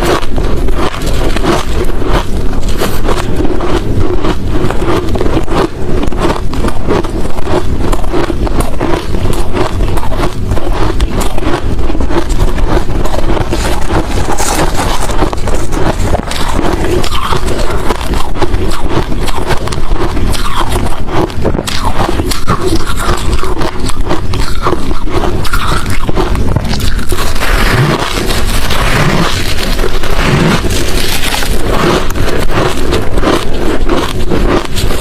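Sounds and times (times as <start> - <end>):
chewing crunchy ice: 0.0 - 35.0.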